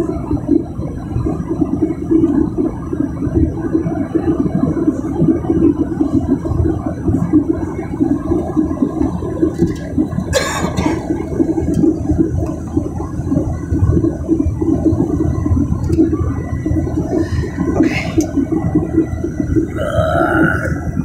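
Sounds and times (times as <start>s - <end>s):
airplane cabin engine noise: 0.0s - 21.0s.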